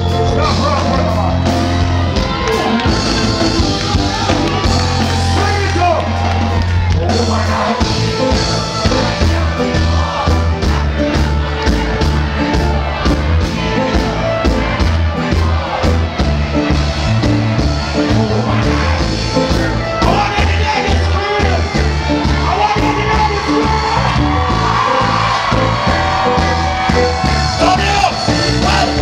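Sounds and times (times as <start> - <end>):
crowd: 0.0 - 29.0
heavy reggae bass line: 0.0 - 29.0.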